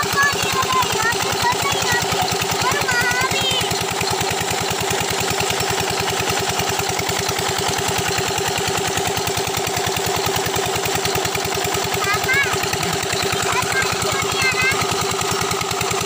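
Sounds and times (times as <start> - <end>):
water pump engine chugging: 0.0 - 16.0.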